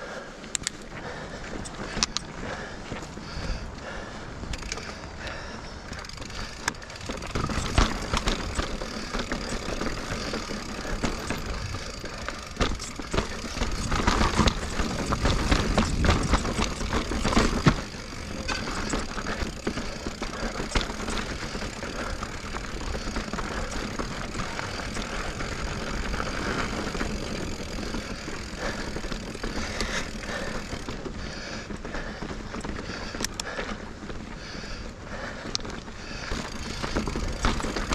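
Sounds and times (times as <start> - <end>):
bike clicks and rattles: 0.0 - 37.9
bike tyre rumble: 0.0 - 37.9.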